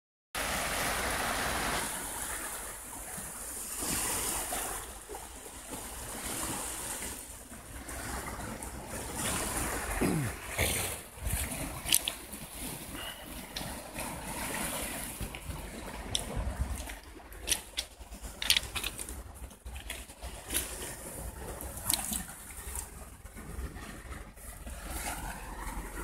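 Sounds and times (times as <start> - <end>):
waves washing over pebbles: 0.4 - 26.0
wind rumbling on microphone: 1.0 - 26.0.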